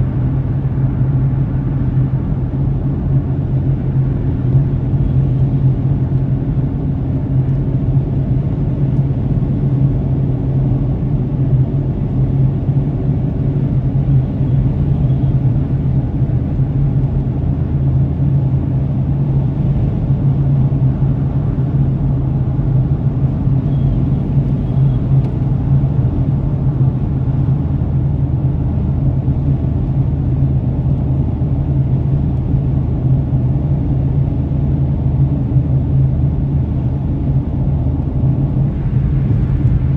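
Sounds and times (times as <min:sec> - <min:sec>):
car interior engine and road noise: 0:00.0 - 0:39.9.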